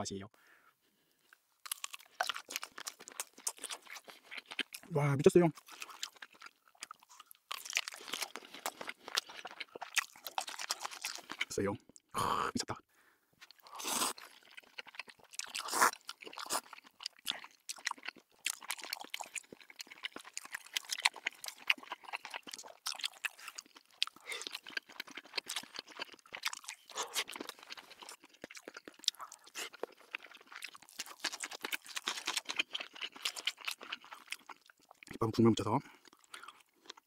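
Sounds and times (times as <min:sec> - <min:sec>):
wet chewing: 0:01.2 - 0:12.0, 0:13.4 - 0:35.2, 0:35.8 - 0:37.0.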